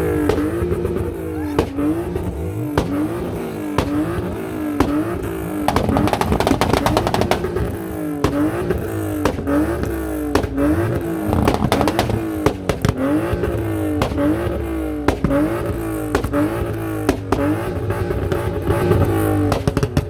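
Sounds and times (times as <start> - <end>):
car engine revving: 0.0 - 20.0
exhaust pops and cracks: 0.0 - 20.0.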